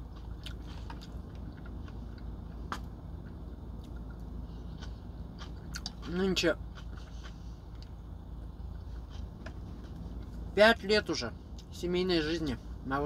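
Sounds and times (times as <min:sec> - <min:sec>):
biting and chewing: 0:00.0 - 0:10.5
low hum: 0:00.0 - 0:13.0.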